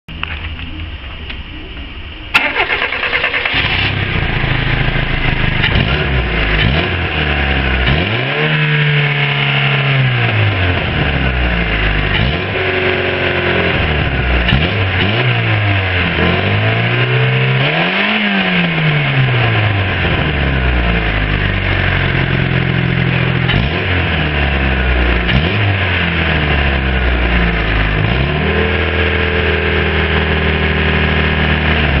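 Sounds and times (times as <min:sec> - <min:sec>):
car engine idling and revving: 0:00.1 - 0:32.0.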